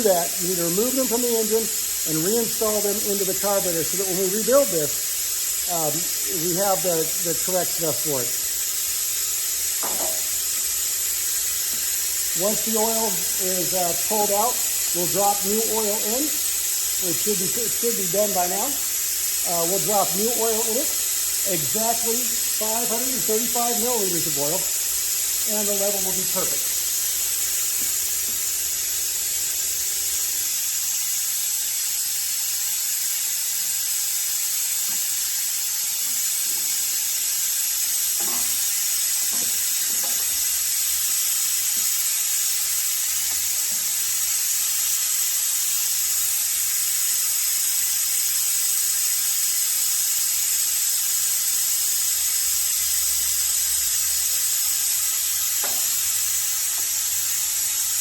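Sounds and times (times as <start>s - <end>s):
high-pitched hiss: 0.0s - 58.0s.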